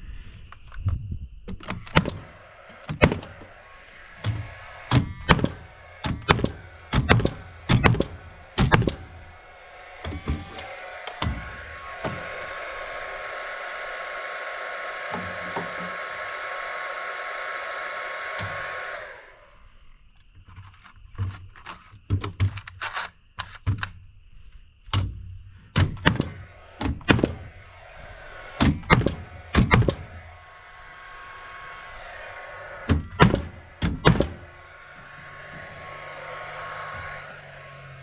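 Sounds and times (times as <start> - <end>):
steady hiss with held tone: 2.1 - 20.3, 25.5 - 38.0.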